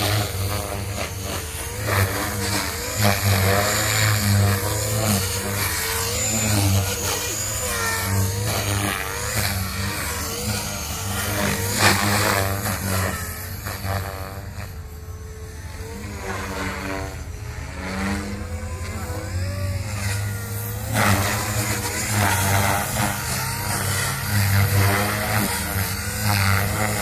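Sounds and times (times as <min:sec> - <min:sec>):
rc helicopter rotor whine: 0:00.0 - 0:27.0.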